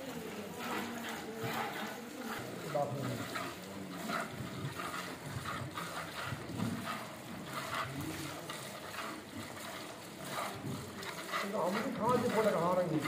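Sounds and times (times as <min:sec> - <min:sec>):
milk squirting into a pail: 0:00.0 - 0:13.0.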